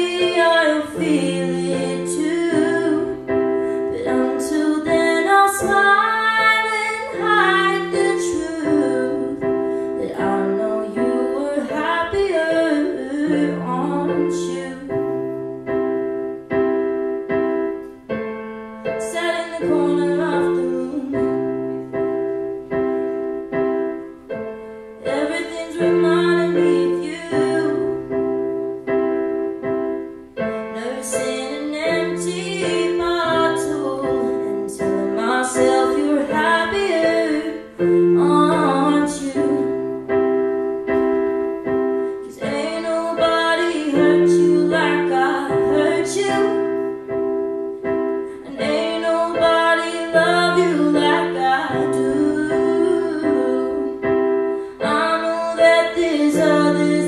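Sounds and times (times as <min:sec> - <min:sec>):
woman singing: 0:00.0 - 0:15.3, 0:18.8 - 0:22.0, 0:25.0 - 0:28.5, 0:30.4 - 0:40.2, 0:42.1 - 0:57.0
piano chords on keyboard: 0:00.0 - 0:57.0.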